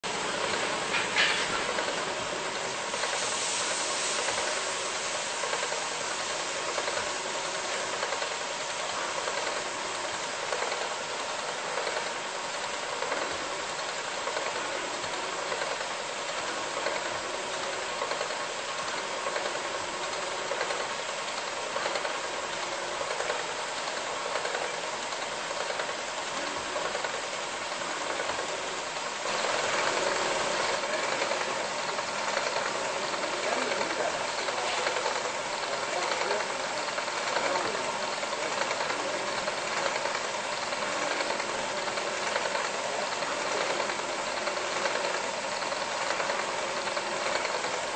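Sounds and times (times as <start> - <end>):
machine shop hiss: 0.1 - 47.9.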